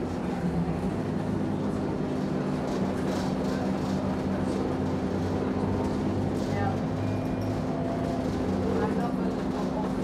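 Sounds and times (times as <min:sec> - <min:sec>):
bus diesel engine hum: 0:00.0 - 0:10.0.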